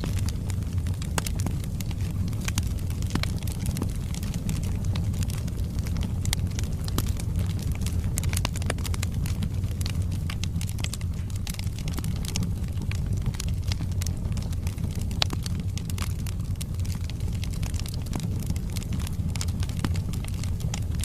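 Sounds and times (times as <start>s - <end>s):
fire crackling and popping: 0.0s - 21.0s
fire roaring: 0.0s - 21.0s.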